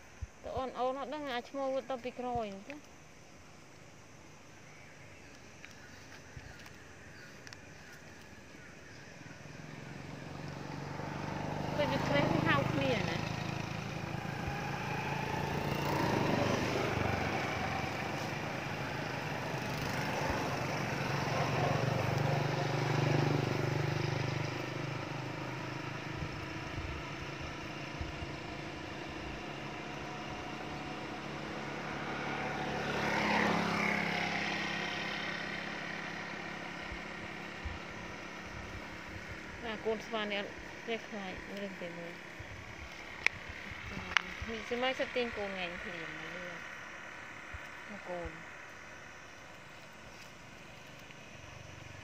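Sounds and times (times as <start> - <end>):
engine humming: 0.0 - 52.0.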